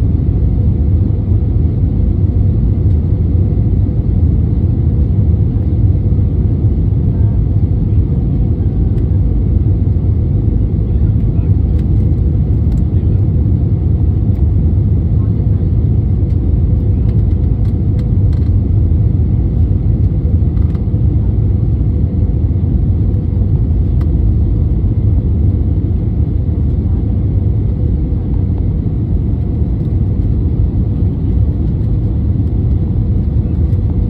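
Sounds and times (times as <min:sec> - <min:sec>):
jet engine and airflow rumble: 0:00.0 - 0:34.0.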